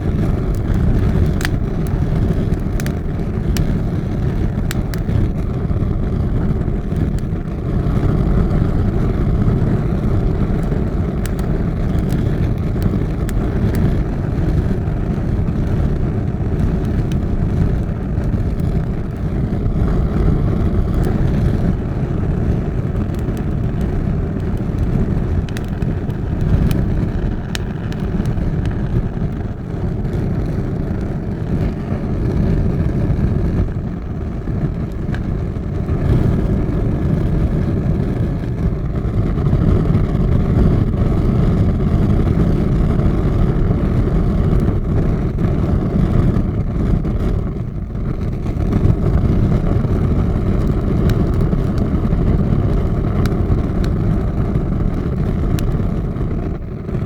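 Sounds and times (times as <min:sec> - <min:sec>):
fire crackling and popping: 0:00.0 - 0:57.0
fire roaring: 0:00.0 - 0:57.0.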